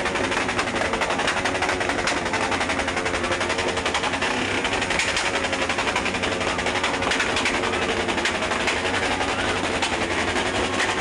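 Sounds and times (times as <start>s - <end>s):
motorcycle exhausts revving: 0.0s - 11.0s.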